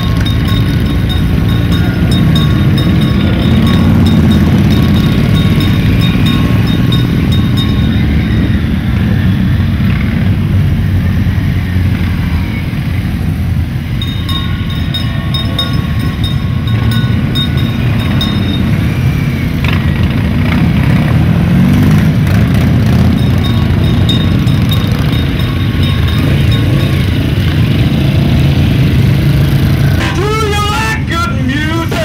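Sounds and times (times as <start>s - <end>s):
motorcycle engine revving: 0.0s - 30.2s
motorcycle engines rumbling: 0.0s - 32.0s.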